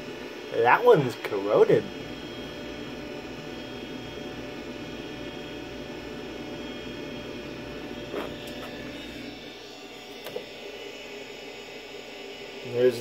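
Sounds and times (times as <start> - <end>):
computer fan whirring: 0.0 - 13.0.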